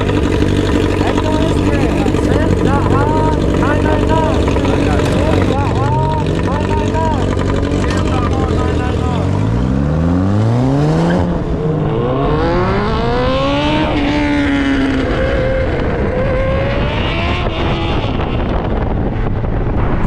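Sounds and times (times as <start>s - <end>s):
vehicle engine accelerating: 0.0s - 20.0s.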